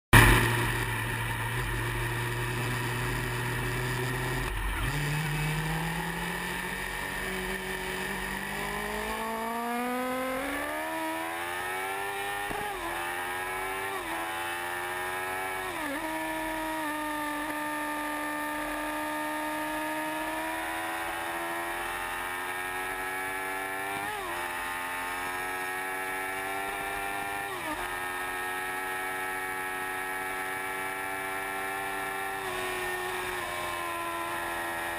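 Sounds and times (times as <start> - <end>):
motorcycle engine accelerating through gears: 0.1 - 34.9.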